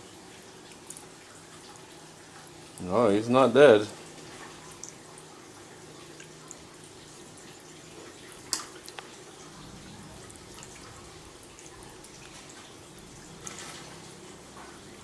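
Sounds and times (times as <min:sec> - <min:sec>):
faint steady hum: 0:00.0 - 0:15.0
water dripping and trickling: 0:00.0 - 0:15.0.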